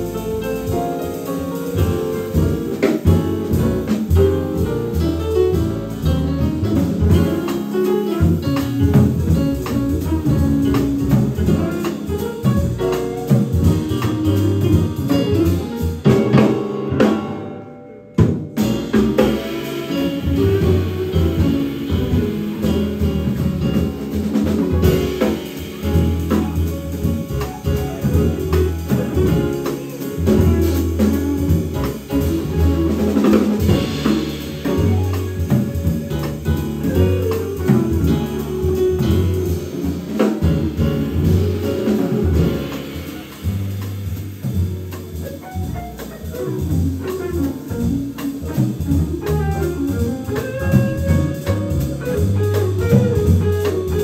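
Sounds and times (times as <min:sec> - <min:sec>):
busy drum kit: 0:00.0 - 0:54.0
jazz band playing: 0:00.0 - 0:54.0.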